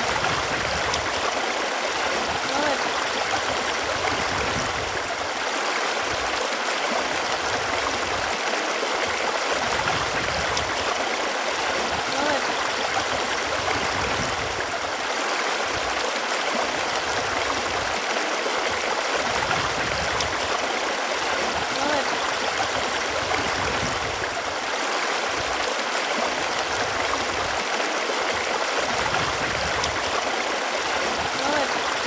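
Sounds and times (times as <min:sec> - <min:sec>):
running water: 0:00.0 - 0:32.0.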